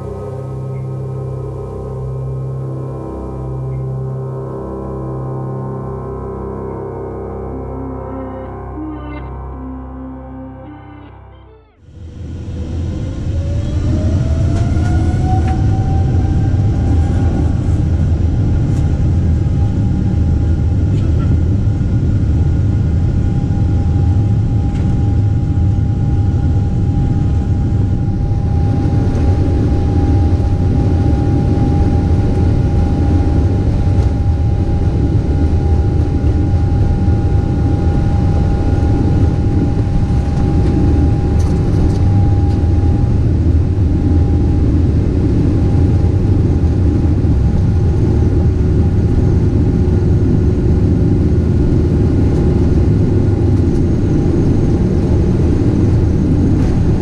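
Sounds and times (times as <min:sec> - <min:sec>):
deep rumble of aircraft engines: 0:00.0 - 0:10.2, 0:11.8 - 0:57.0
thin steady whine: 0:00.0 - 0:57.0.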